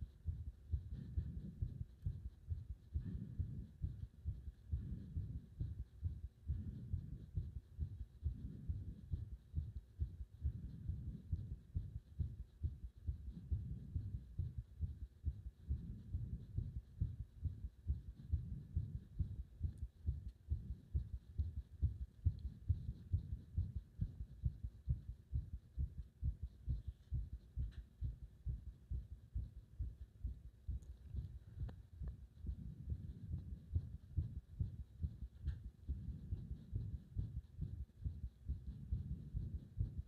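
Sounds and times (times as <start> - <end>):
human heartbeat: 0.0 - 40.0.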